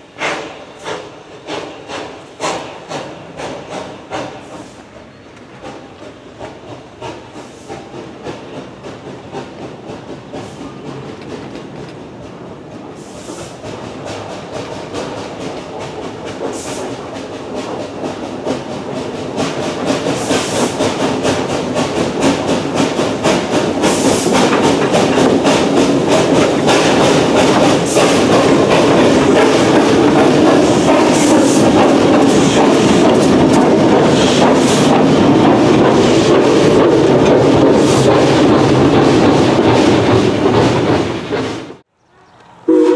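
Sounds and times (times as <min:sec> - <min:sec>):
train wheels clattering over rail joints: 0:00.2 - 0:41.8.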